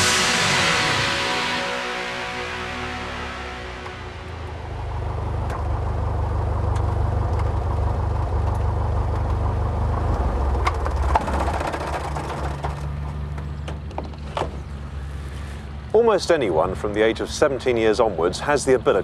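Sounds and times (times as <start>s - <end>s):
light aircraft engine drone: 0.0s - 12.2s, 13.2s - 19.0s.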